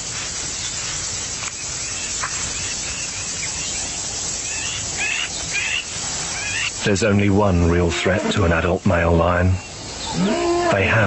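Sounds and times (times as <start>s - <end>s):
insect hiss: 0.0s - 11.0s.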